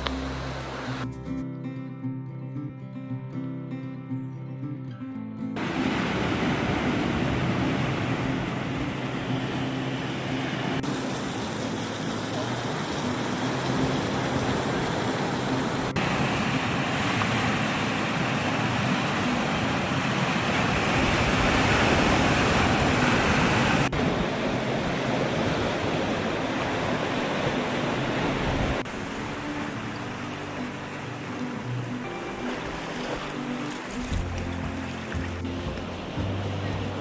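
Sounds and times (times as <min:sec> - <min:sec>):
ocean surf rushing: 0:00.0 - 0:01.0, 0:05.6 - 0:37.0.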